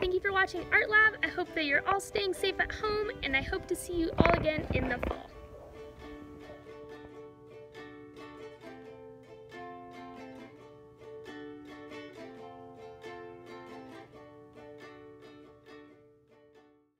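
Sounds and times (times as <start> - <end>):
upbeat plucked string music: 0.0 - 16.9.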